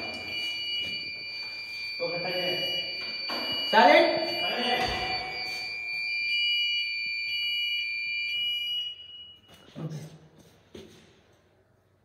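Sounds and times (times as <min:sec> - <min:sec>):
fire alarm tone: 0:00.0 - 0:09.8.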